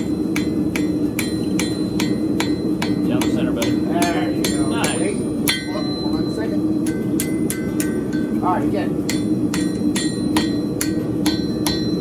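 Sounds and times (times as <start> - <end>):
hammer striking steel on anvil: 0.0 - 12.0
steady low hum: 0.0 - 12.0.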